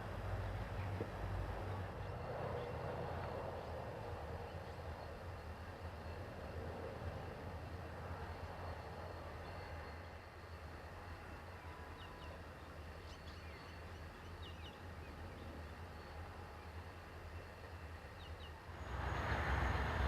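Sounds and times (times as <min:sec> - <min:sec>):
diesel locomotive drone: 0:00.0 - 0:20.0.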